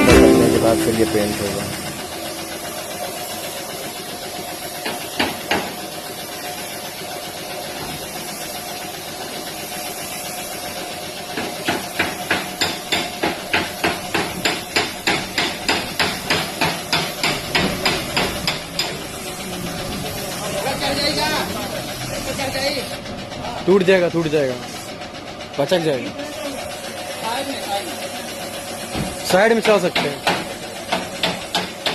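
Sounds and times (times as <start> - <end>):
steady mechanical hum: 1.2 - 31.9.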